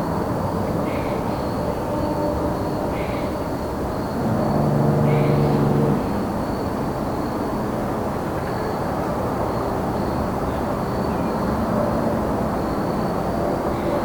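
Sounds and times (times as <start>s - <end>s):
crickets chirping: 0.3s - 14.0s
distant vehicle traffic rumble: 0.5s - 12.8s.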